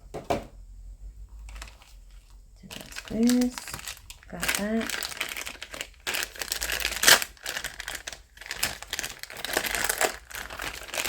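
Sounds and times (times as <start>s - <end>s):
plastic bags crinkling: 1.4s - 11.0s.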